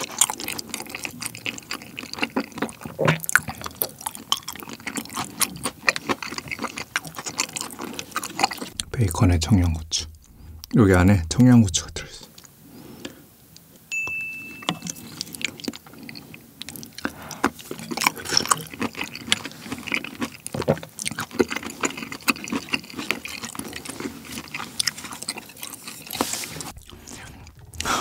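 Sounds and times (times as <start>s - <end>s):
person chewing sticky food: 0.0s - 10.8s, 12.2s - 13.7s, 14.6s - 28.0s.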